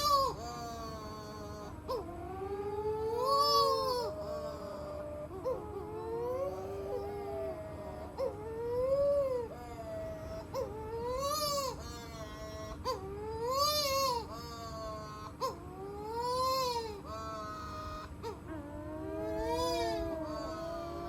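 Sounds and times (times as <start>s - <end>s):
seabirds wailing: 0.0s - 21.0s
sharp bird yelps: 0.0s - 21.0s.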